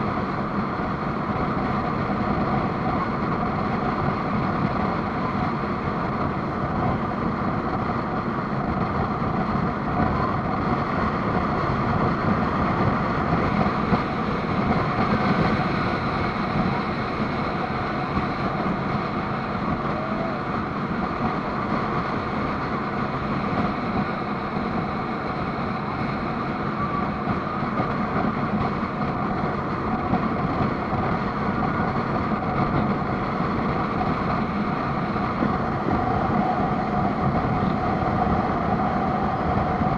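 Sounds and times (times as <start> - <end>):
speedboat engine running: 0.0 - 39.9.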